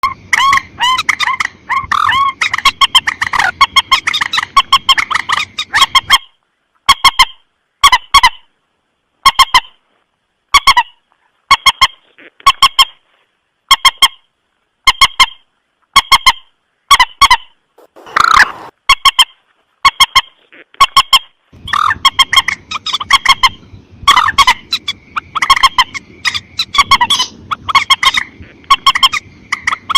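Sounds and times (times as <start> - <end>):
moorhen honking clucks: 0.0 - 6.3, 6.9 - 8.5, 10.5 - 13.0, 13.7 - 14.2, 14.9 - 15.4, 16.0 - 29.9.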